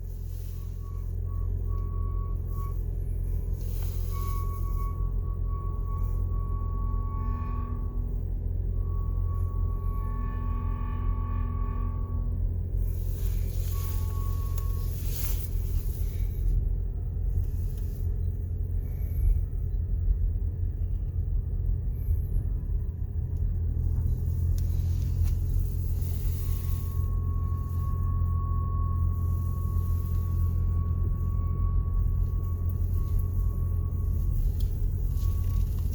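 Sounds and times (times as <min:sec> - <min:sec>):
car low rumble: 0:00.0 - 0:35.9.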